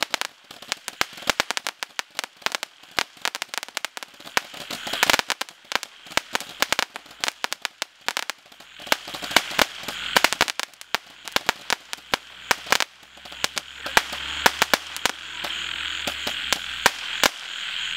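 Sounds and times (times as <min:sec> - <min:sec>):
roman candle reports popping: 0:00.0 - 0:17.4
hiss of fireworks: 0:00.0 - 0:17.9.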